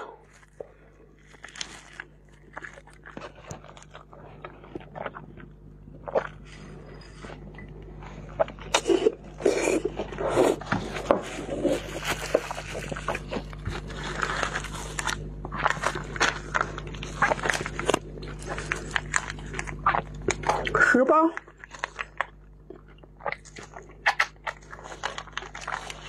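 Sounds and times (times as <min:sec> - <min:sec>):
crunching and chewing peppers: 0:00.0 - 0:26.0.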